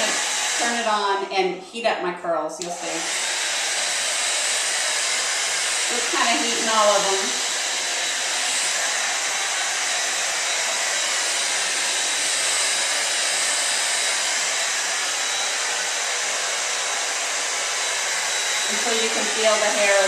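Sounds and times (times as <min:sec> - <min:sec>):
hair dryer running: 0:00.0 - 0:01.3, 0:02.6 - 0:20.0.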